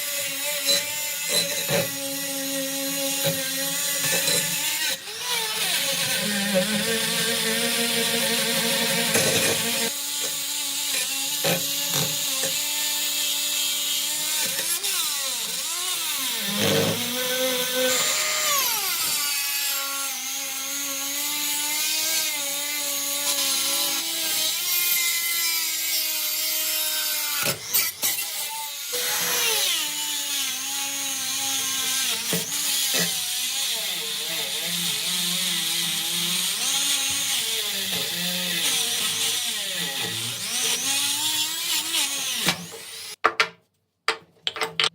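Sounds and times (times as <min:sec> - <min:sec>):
power tool grinding metal: 0:00.0 - 0:43.2.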